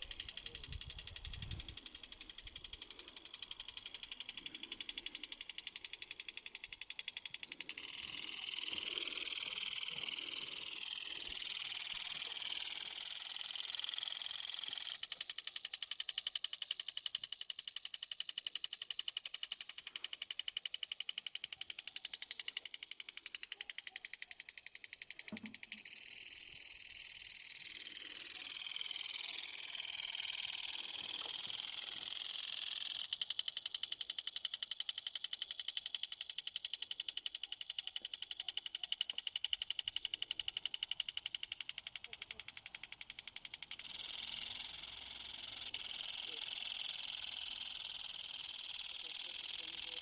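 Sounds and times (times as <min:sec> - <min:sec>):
impulse sprinkler arm ticking: 0:00.0 - 0:50.0.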